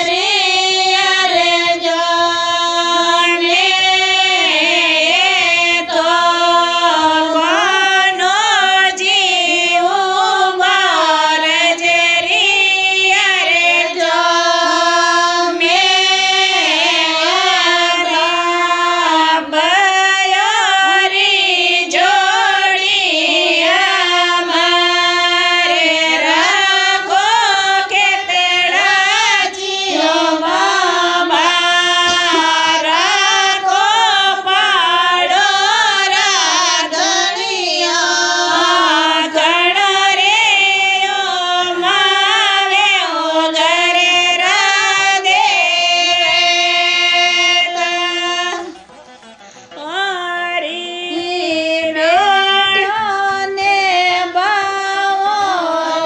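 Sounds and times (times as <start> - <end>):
women singing devotional song: 0.0 - 56.0.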